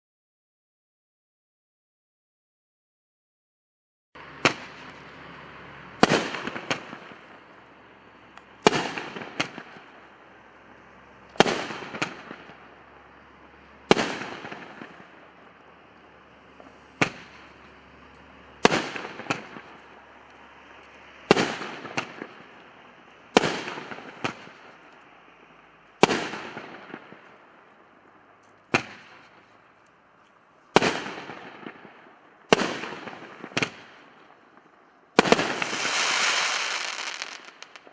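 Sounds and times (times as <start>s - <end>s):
fireworks bangs: 4.2s - 28.0s, 28.6s - 29.8s, 30.7s - 37.9s.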